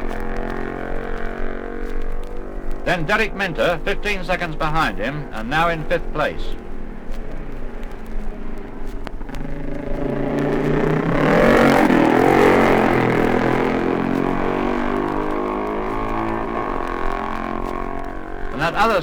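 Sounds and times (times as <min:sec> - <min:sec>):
racing motorcycle passing: 0:00.0 - 0:19.0.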